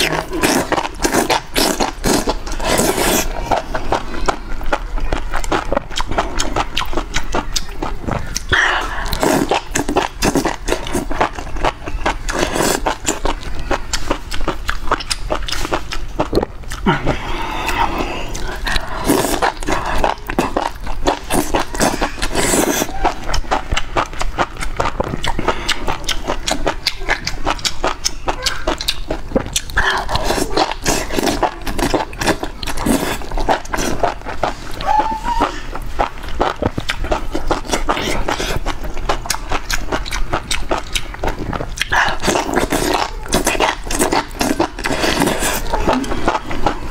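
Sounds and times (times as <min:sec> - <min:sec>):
slurping and chewing: 0:00.0 - 0:46.9.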